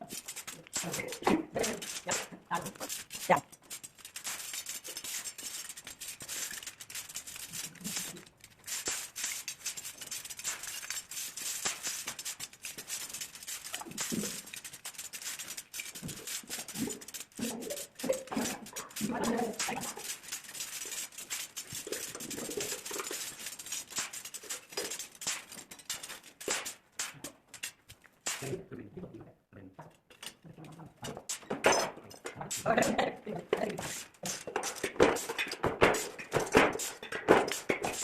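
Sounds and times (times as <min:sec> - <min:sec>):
electric arc crackling on metal: 0:00.0 - 0:28.6, 0:31.0 - 0:38.0.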